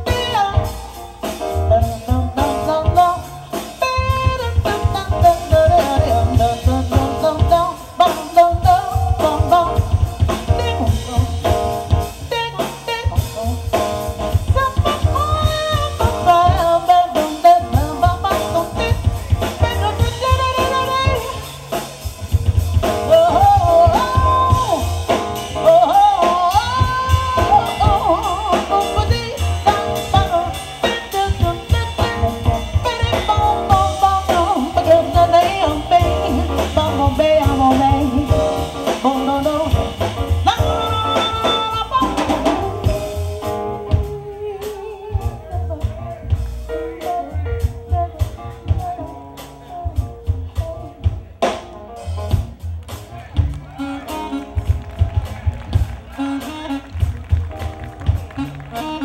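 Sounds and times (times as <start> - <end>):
woman singing: 0.0 - 13.5, 14.3 - 21.6, 22.8 - 46.2, 47.0 - 51.2
jazz-funk band playing: 0.0 - 59.0.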